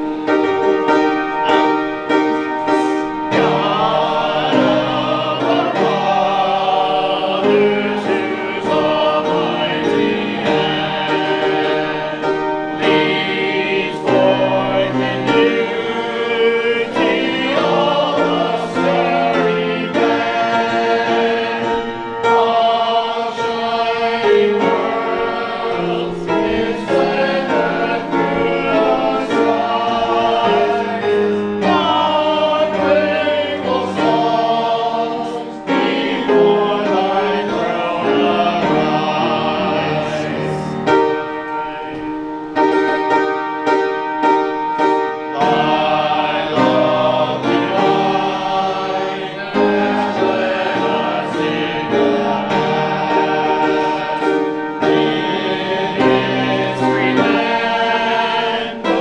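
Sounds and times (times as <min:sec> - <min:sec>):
congregation singing a hymn: 0:00.0 - 0:59.0
instrumental accompaniment: 0:00.0 - 0:59.0.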